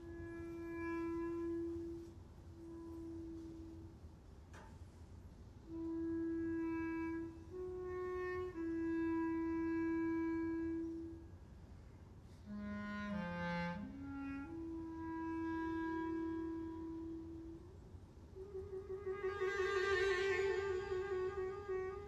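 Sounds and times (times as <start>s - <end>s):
single-reed woodwind long notes: 0.0s - 4.7s, 5.6s - 11.5s, 12.1s - 22.0s.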